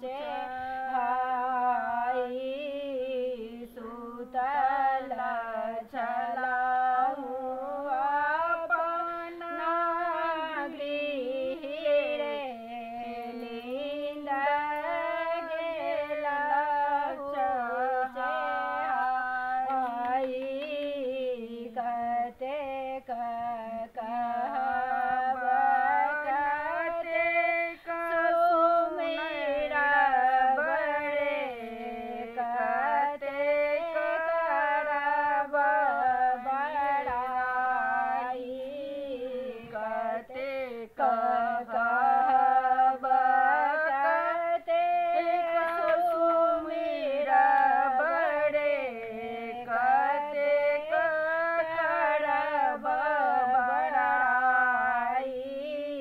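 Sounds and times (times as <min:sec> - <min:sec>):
two women singing in unison: 0:00.0 - 0:56.0.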